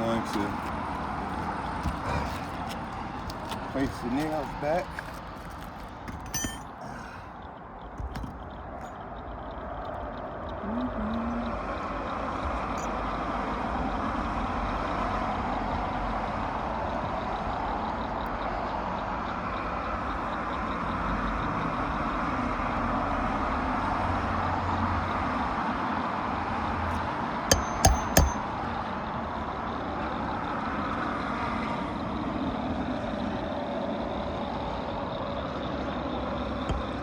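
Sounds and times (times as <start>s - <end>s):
vehicle engine noise: 0.0s - 37.0s.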